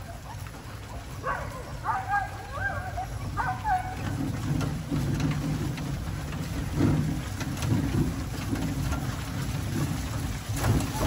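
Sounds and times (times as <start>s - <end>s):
cart wheels rumbling on gravel: 0.0s - 11.0s
gravel crunching: 0.0s - 11.0s.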